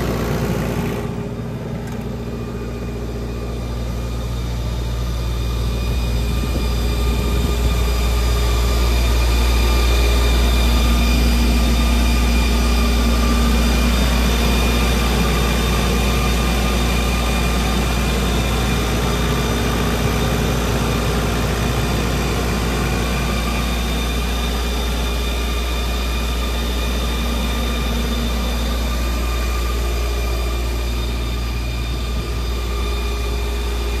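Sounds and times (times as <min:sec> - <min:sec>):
diesel generator humming: 0:00.0 - 0:34.0.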